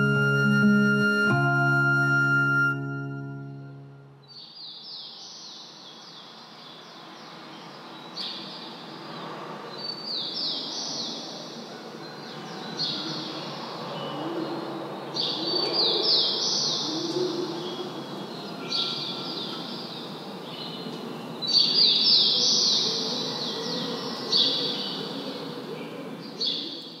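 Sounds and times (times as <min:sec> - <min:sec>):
low background noise: 0:00.0 - 0:27.0.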